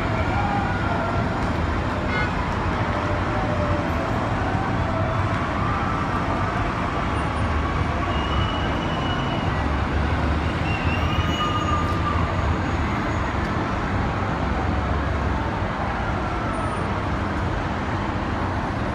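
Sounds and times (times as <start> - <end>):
traffic rumble: 0.0 - 18.9.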